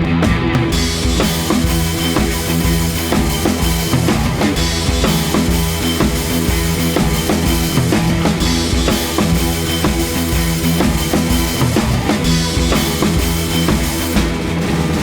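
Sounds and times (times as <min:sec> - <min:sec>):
drum kit beat: 0:00.0 - 0:15.0
rock music: 0:00.0 - 0:15.0
cymbals: 0:00.7 - 0:15.0.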